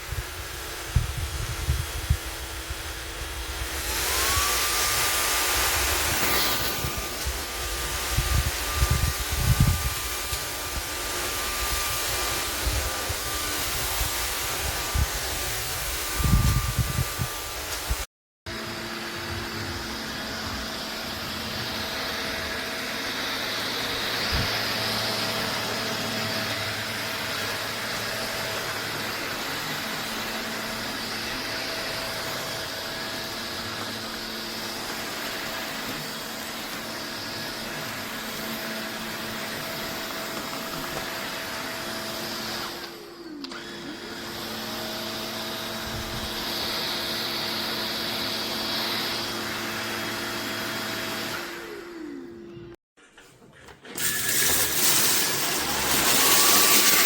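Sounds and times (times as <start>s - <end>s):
stick vacuum cleaner running: 0.0s - 57.0s.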